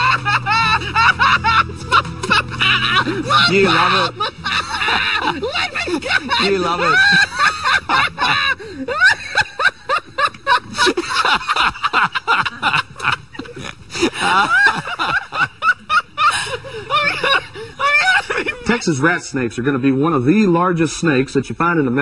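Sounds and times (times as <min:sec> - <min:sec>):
person snickering and chuckling: 0:00.0 - 0:18.8.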